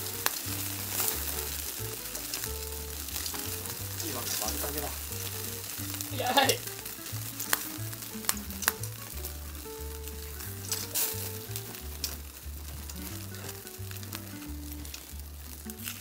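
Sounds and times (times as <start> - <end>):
meat sizzling on a grill: 0.0 - 16.0
sharp pops: 0.0 - 16.0
soft music with stepping bass: 0.0 - 16.0.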